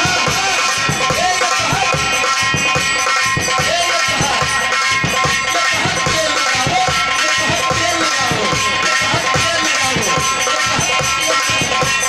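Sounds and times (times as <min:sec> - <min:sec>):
quick drum beats: 0:00.0 - 0:12.0.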